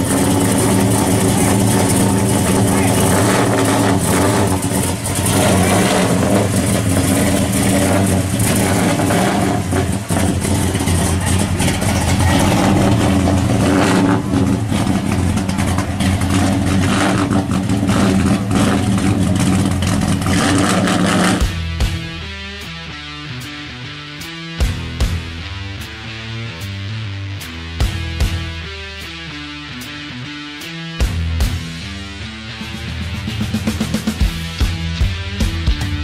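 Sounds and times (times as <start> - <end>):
car engine running at low revs: 0.0 - 29.9.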